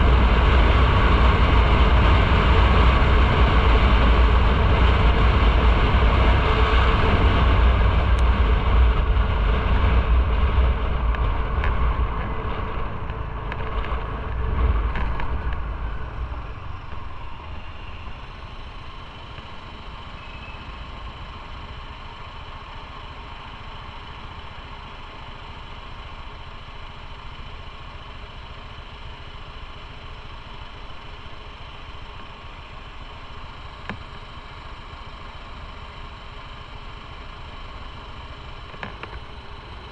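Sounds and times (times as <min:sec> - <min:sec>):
motorcycle engine rumble: 0:00.0 - 0:39.9.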